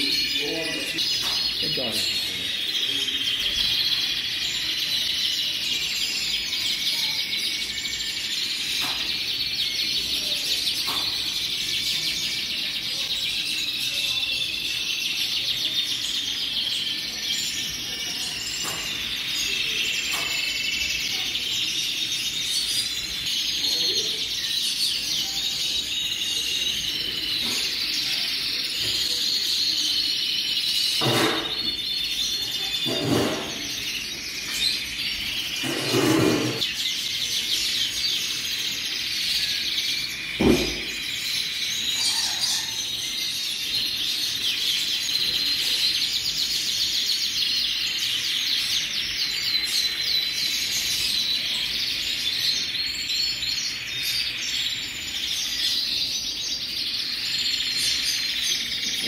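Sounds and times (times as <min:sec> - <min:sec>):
canaries singing trills: 0:00.0 - 0:59.0.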